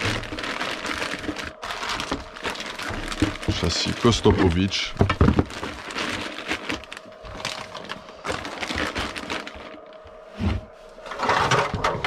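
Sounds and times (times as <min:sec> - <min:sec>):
packaging crackles and clicks: 0:00.0 - 0:10.0.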